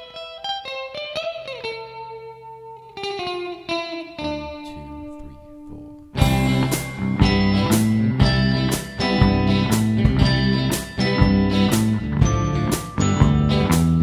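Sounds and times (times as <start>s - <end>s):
electric guitar with effects: 0.0s - 14.0s.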